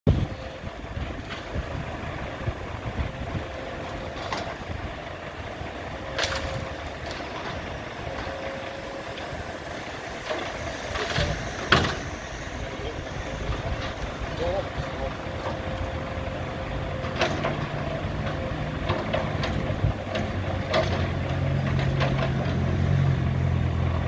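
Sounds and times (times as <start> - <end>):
diesel engines running: 0.1 - 24.0.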